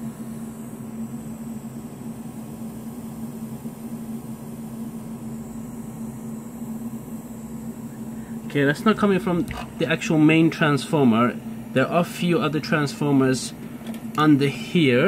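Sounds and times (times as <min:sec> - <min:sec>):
electrical fizzing with hum: 0:01.1 - 0:15.0.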